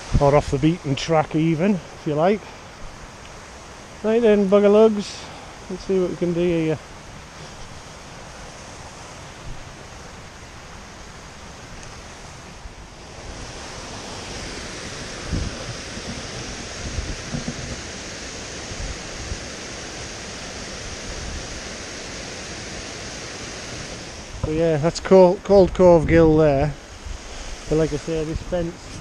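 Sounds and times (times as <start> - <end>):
stream cascading over rocks: 0.0 - 29.0
wind buffeting the microphone: 2.7 - 29.0.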